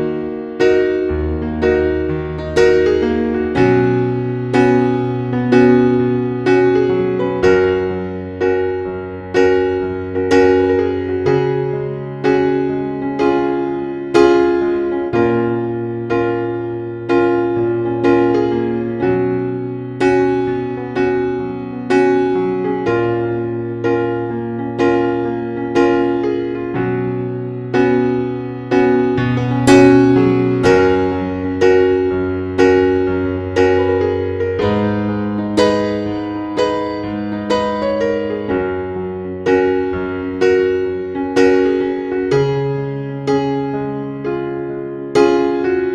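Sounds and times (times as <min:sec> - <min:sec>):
gentle piano chords: 0:00.0 - 0:45.9.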